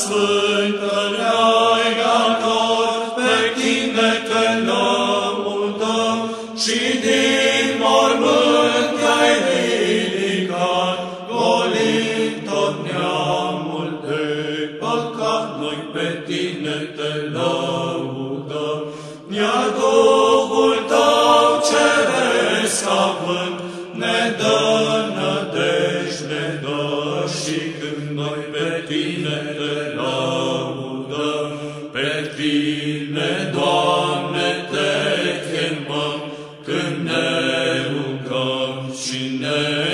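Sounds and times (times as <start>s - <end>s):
voices chanting: 0.0s - 39.9s.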